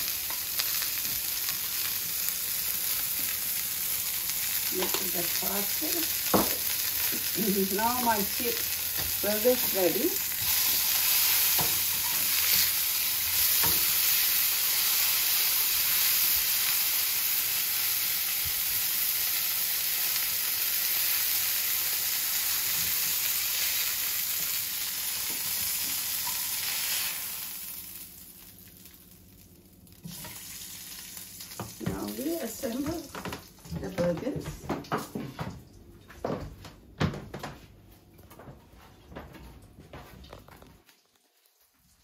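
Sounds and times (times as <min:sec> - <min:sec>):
patties sizzling in oil: 0:00.0 - 0:34.4, 0:40.8 - 0:42.0.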